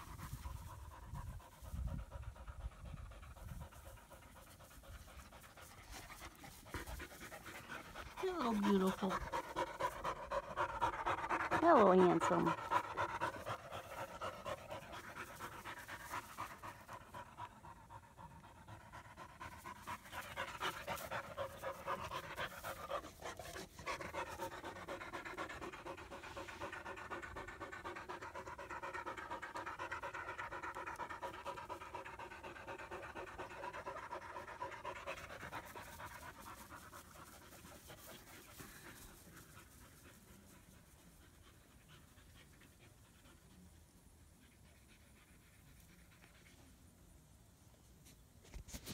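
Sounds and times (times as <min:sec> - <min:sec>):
puppy panting: 0:00.0 - 0:46.9.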